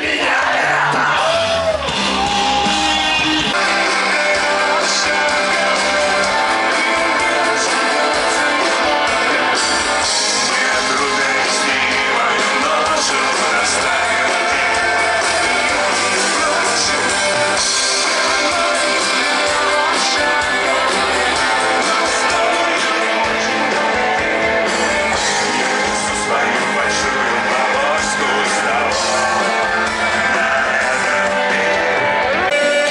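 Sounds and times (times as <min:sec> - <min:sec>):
live rock band playing: 0:00.0 - 0:32.9
singer: 0:00.0 - 0:32.9.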